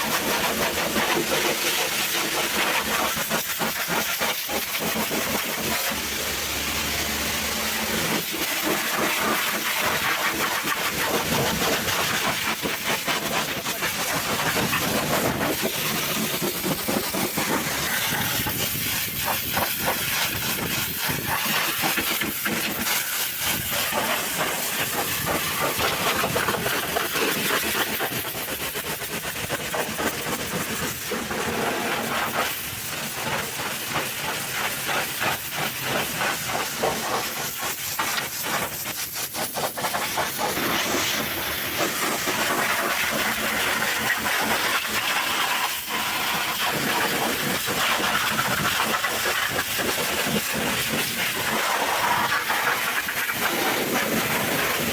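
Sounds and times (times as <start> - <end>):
pressure washer spraying water: 0.0 - 54.9.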